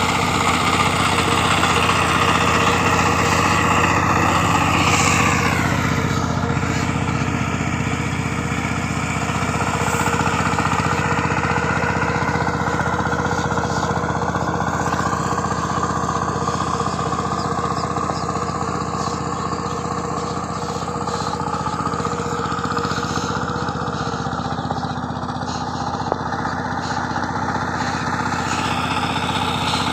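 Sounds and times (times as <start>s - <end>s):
diesel tiller engine running: 0.0s - 29.9s.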